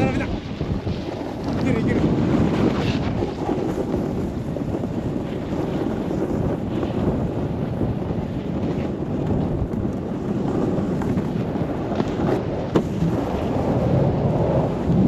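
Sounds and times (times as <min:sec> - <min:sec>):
snowboard carving on snow: 0:00.0 - 0:15.0
wind buffeting microphone: 0:00.0 - 0:15.0.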